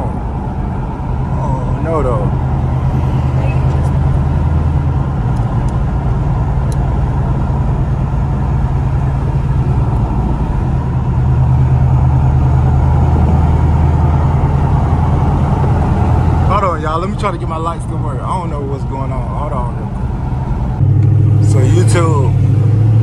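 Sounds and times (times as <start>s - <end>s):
car exhaust drone in cabin: 0.0s - 19.1s.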